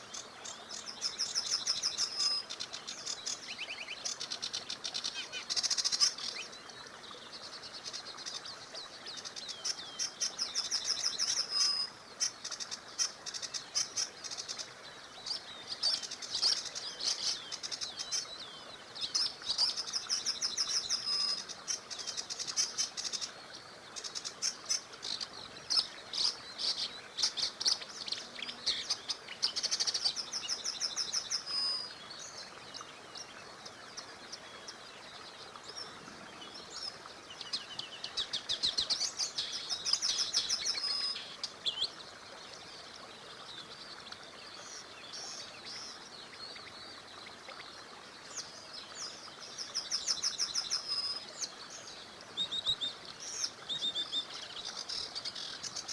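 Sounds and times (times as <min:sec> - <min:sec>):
faint background hiss: 0:00.0 - 0:55.9.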